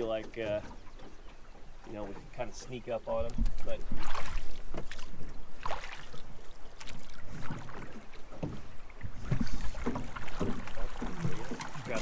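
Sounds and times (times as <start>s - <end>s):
low rumble of wind: 0.0s - 12.0s
oar dipping and pulling: 0.0s - 12.0s
water lapping against hull: 0.0s - 12.0s.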